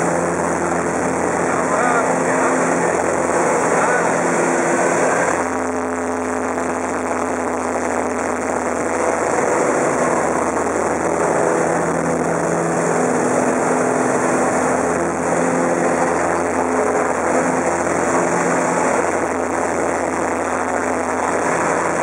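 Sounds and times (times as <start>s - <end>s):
airplane engine drone: 0.0s - 22.0s.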